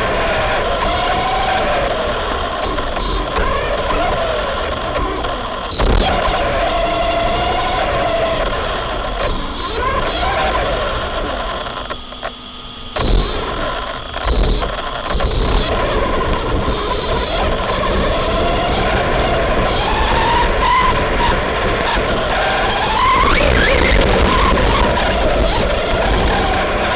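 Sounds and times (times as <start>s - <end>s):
electric motor whining: 0.0s - 26.9s.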